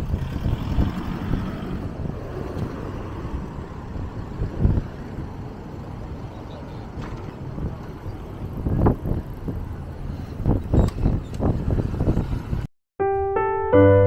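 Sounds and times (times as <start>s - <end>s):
wind buffeting microphone: 0.0s - 12.7s.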